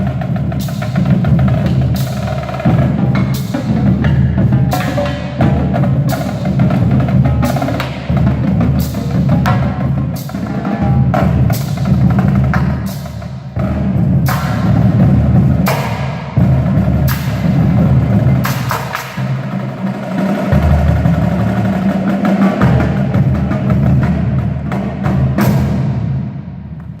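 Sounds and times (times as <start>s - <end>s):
sharp drum strikes: 0.0s - 27.0s.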